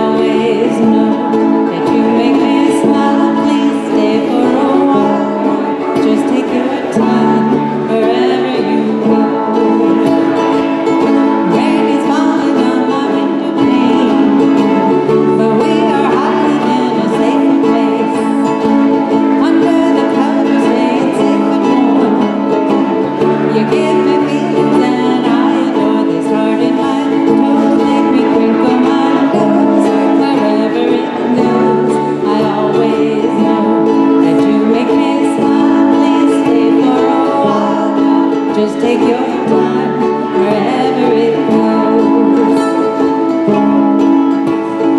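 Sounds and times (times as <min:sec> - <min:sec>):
live band playing pop song: 0:00.0 - 0:44.9
person singing: 0:00.0 - 0:44.9
strummed plucked strings: 0:00.0 - 0:44.9.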